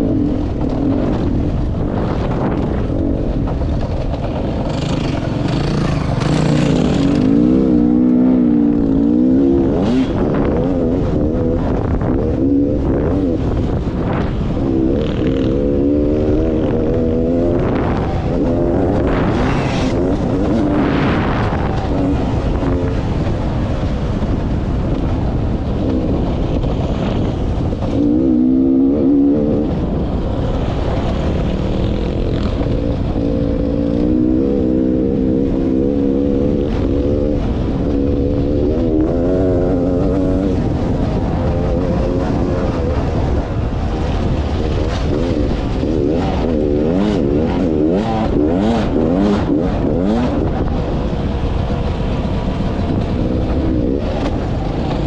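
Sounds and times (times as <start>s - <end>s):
dirt bike engine running: 0.0s - 55.0s
wind rush over microphone: 0.0s - 55.0s.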